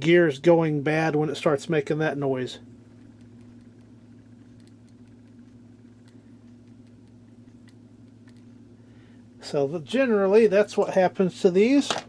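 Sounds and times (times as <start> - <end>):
timer motor humming: 2.0 - 11.7.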